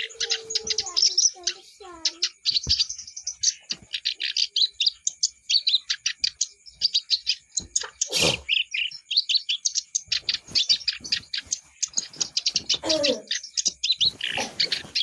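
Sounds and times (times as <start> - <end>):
warbler chattering song: 0.0 - 15.0.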